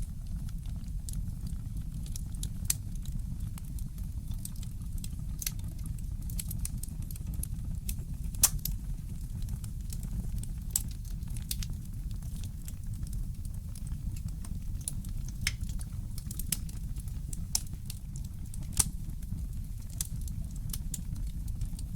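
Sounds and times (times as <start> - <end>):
fire pops and snaps: 1.8 - 21.9
fireplace crackling: 2.1 - 21.9.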